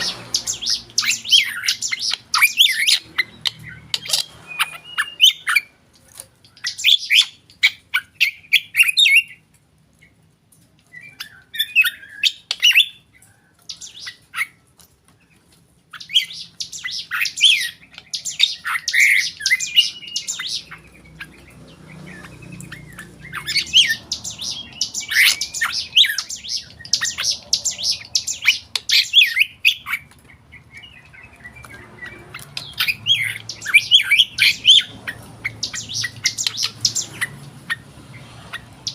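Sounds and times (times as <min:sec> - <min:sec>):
bird singing chirps and whistles: 0:00.0 - 0:05.7, 0:06.5 - 0:09.4, 0:10.9 - 0:13.1, 0:15.9 - 0:37.8.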